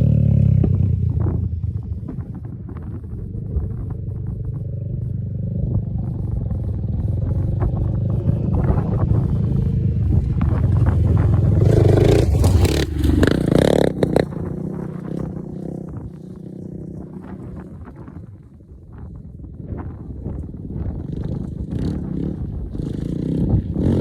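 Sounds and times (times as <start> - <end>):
quad bike engine running: 0.0 - 24.0.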